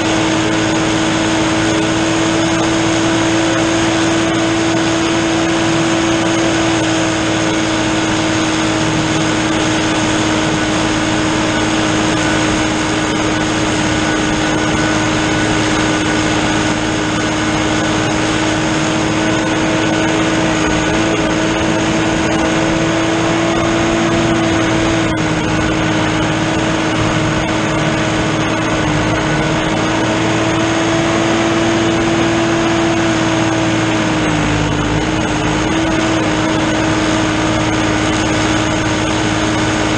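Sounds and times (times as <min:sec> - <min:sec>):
mower whine: 0:00.0 - 0:39.9
tractor diesel engine running: 0:00.0 - 0:39.9.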